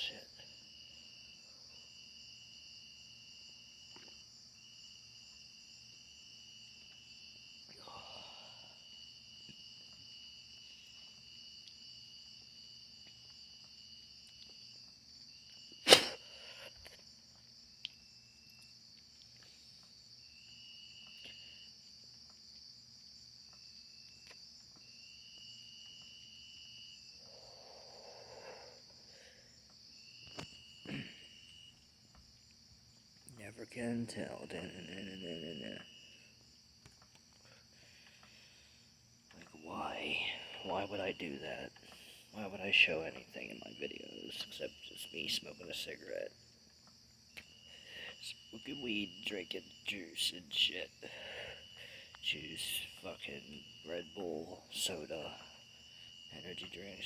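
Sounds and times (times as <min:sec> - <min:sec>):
insect high buzz: 0:00.0 - 0:57.0
low insect trill: 0:00.0 - 0:57.0.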